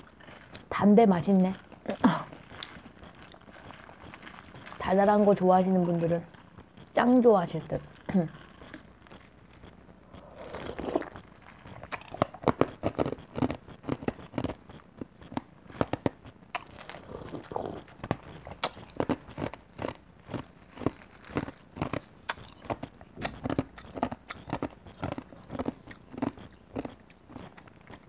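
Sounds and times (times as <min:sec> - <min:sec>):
crunchy popcorn chewing: 0:00.0 - 0:28.0.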